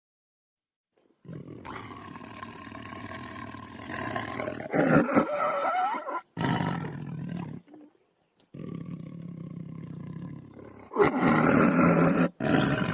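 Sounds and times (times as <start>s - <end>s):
tiger roaring: 1.2s - 7.8s, 8.5s - 12.9s.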